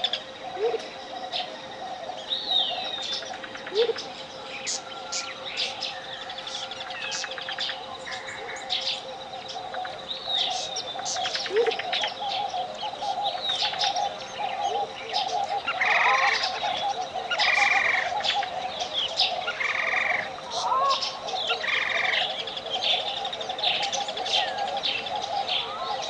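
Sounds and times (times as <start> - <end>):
birds chirping and whistling: 0.0 - 26.0
buzzy bird calls: 0.0 - 26.0.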